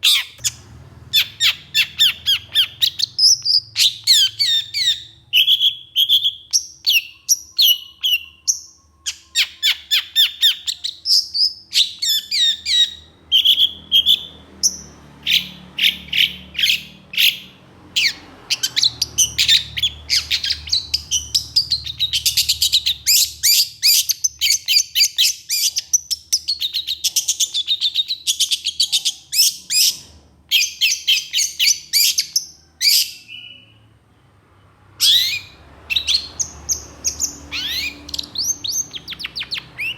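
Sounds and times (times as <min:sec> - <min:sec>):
bird singing rough chatter: 0:00.0 - 0:33.8, 0:35.0 - 0:39.9.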